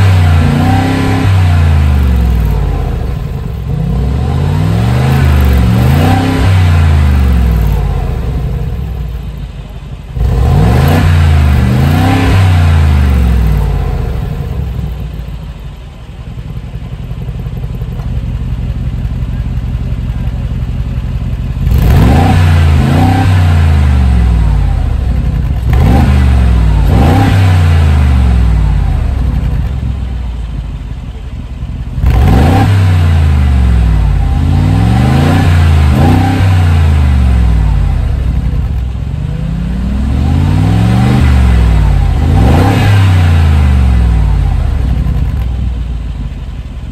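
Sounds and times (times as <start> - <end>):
car engine revving: 0.0 - 18.1, 21.4 - 46.9.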